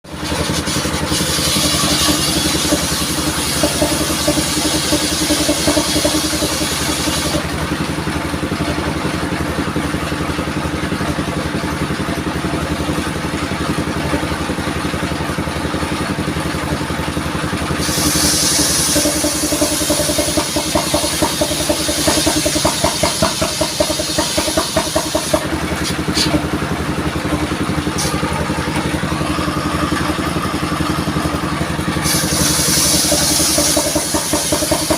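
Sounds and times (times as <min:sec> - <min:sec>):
sawmill engine running: 0:00.0 - 0:34.9.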